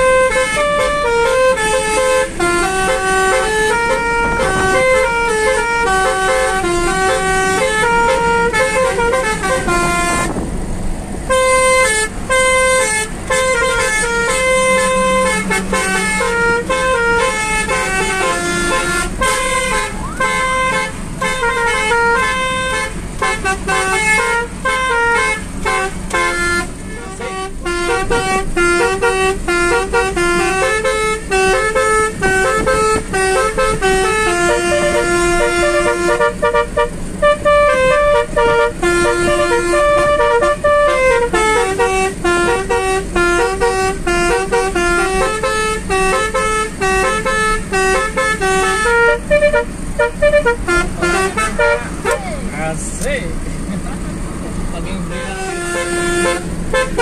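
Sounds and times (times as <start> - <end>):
musical air horn playing tune: 0.0 - 10.4, 11.3 - 52.2, 55.1 - 57.0
car hum: 0.0 - 57.0.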